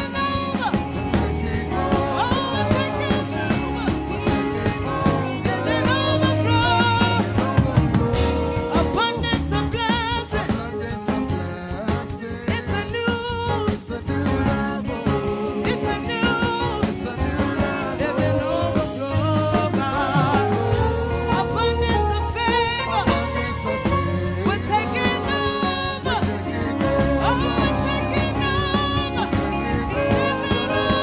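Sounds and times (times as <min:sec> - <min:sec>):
band with bass and drum kit: 0:00.0 - 0:31.0
person singing: 0:00.0 - 0:31.0.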